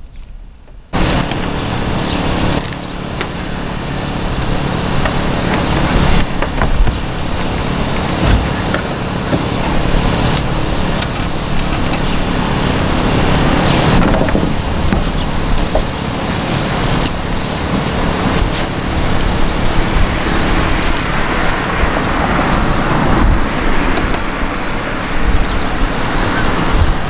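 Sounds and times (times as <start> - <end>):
traffic noise: 0.0 - 27.0
low motor-like rumble: 0.3 - 27.0.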